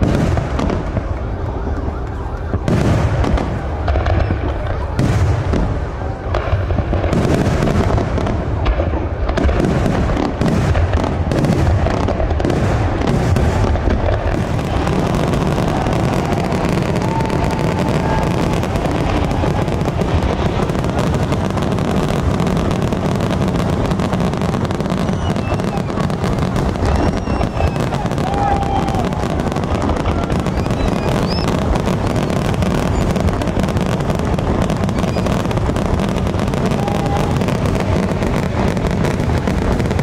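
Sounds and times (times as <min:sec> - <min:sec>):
fireworks booming and crackling: 0:00.0 - 0:40.0.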